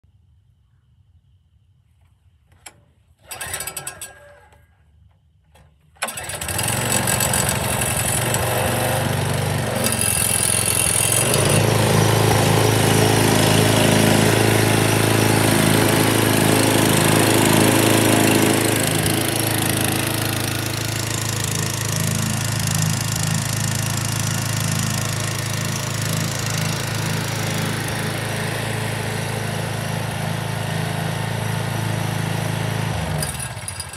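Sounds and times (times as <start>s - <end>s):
small engine pull-started: 2.5s - 33.9s
small engine running: 3.2s - 4.7s, 6.0s - 33.9s.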